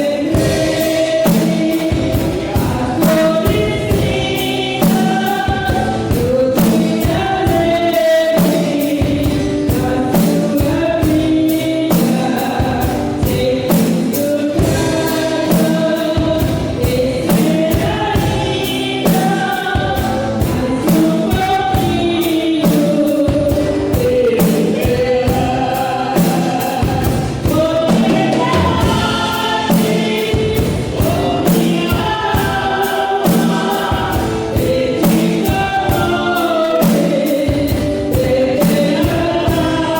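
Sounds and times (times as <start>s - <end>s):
band playing: 0.0s - 39.9s
choir singing gospel song: 0.0s - 39.9s
steady drum beat: 0.0s - 39.9s.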